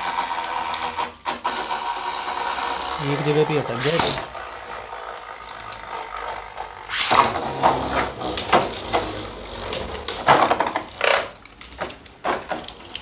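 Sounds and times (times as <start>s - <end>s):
spinning tops whirring: 0.0s - 11.4s.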